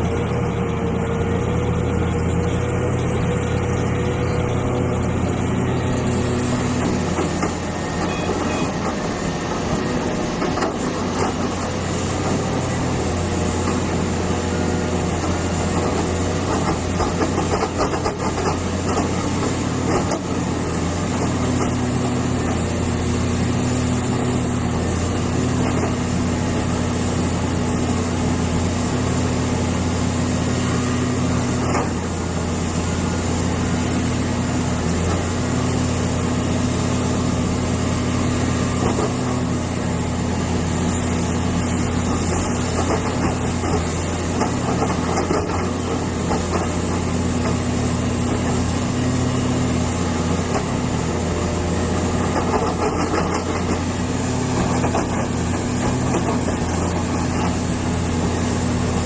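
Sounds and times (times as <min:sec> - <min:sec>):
excavator diesel engine whining: 0:00.0 - 0:59.0.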